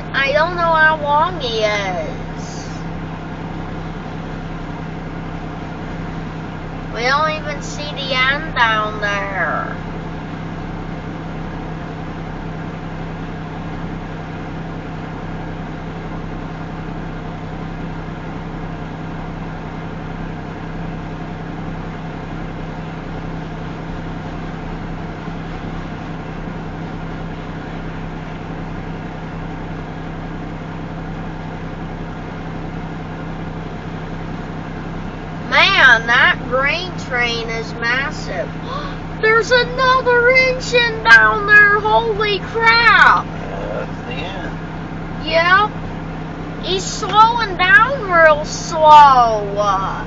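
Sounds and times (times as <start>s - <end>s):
car interior engine and road noise: 0.0s - 50.0s.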